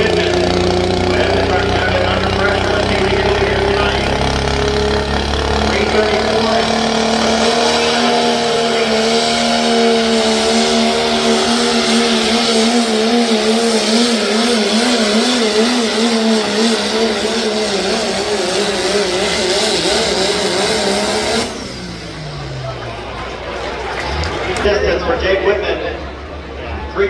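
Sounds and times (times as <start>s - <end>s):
diesel truck engine droning: 0.0s - 27.0s.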